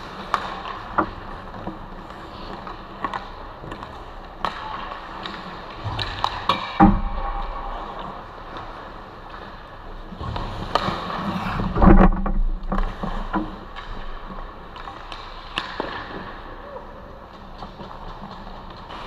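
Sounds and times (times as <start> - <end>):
skates scraping on ice: 0.0 - 6.5, 7.3 - 19.0
clacks of sticks and puck: 0.0 - 19.0.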